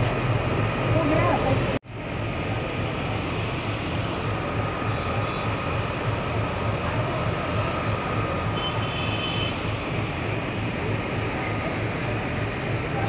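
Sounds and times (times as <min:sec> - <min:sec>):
faint steady whine: 0:00.0 - 0:13.0
rumble of rail traffic: 0:00.0 - 0:13.0.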